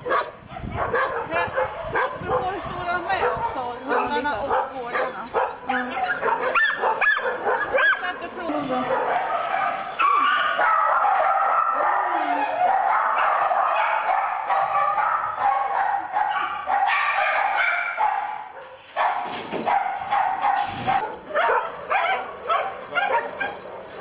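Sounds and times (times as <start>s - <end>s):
dogs barking and yelping: 0.0s - 24.0s.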